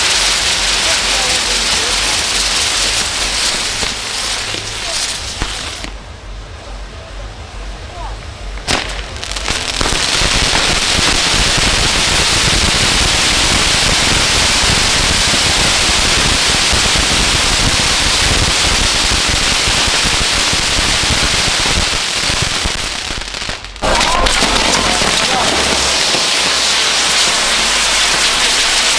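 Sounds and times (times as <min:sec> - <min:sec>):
ground fireworks crackling and hissing: 0:00.0 - 0:28.9.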